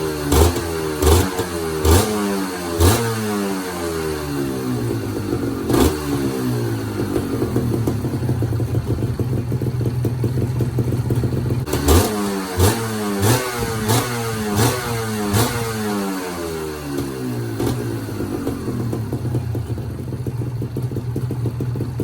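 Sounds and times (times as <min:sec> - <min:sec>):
two-stroke engine idling and revving: 0:00.0 - 0:22.0.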